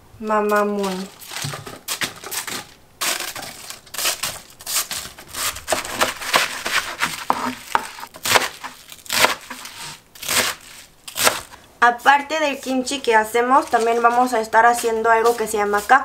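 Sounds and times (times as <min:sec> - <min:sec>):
knife cutting cabbage: 0:00.5 - 0:16.0.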